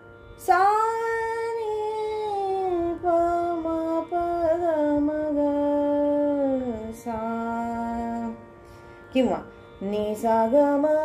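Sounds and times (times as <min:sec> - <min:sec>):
woman singing: 0:00.4 - 0:08.5, 0:09.2 - 0:11.0.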